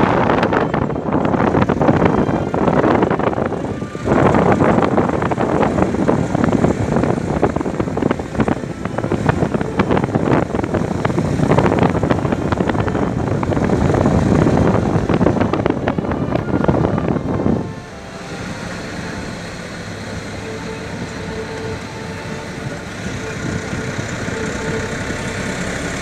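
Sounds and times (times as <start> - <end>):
rushing wind and road noise: 0.0 - 26.0
wind buffeting microphone: 0.0 - 26.0.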